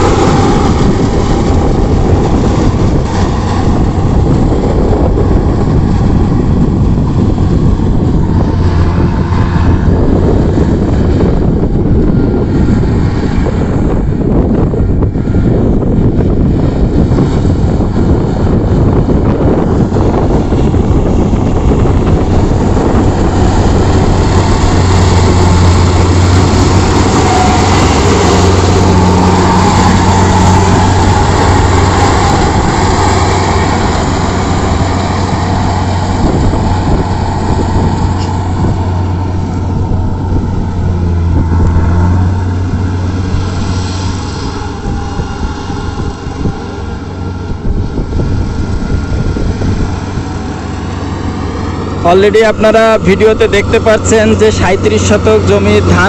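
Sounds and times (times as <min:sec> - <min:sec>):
combine harvester engine hum: 0:00.0 - 0:56.0
threshing machinery rattle and whir: 0:00.0 - 0:56.0.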